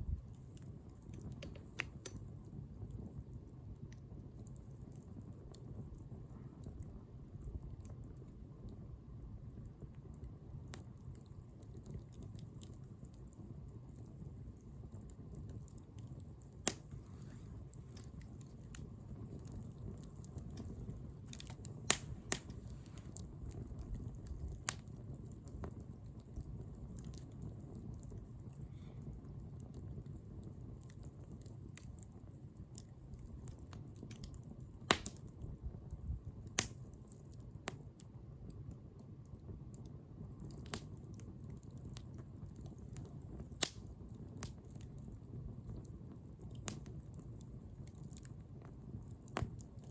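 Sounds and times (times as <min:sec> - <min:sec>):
bonfire crackling and popping: 0:00.0 - 0:49.9
low rumble of burning fire: 0:00.0 - 0:49.9.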